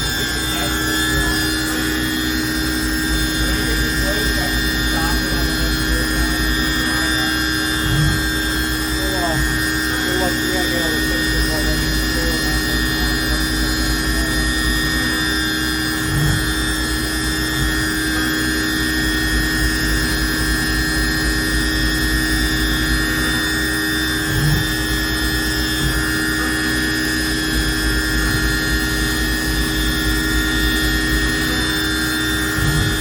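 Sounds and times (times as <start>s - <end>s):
machining center hum and whine: 0.0s - 33.0s.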